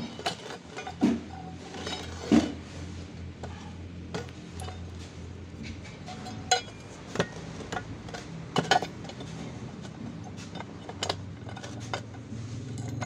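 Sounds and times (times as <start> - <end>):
metal clinks and knocks: 0.0 - 13.0
steady low hum: 0.0 - 13.0.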